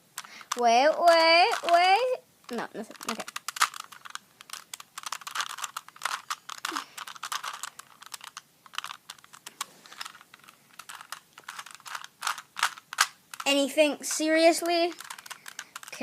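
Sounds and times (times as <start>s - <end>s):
puzzle cube clicking: 0.2s - 16.0s.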